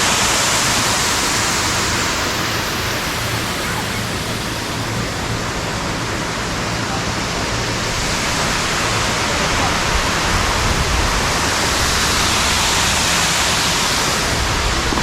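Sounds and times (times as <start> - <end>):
water rushing down cascade: 0.0 - 15.0.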